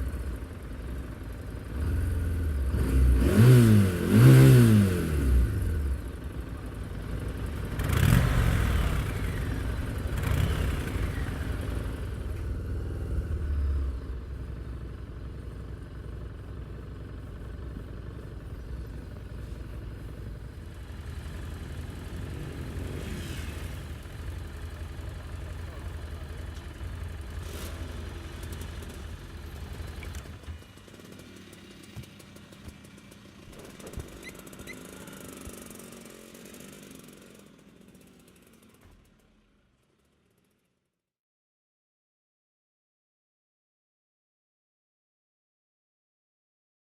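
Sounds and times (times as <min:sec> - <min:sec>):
motorcycle engine revving and idling: 0:00.0 - 0:40.6.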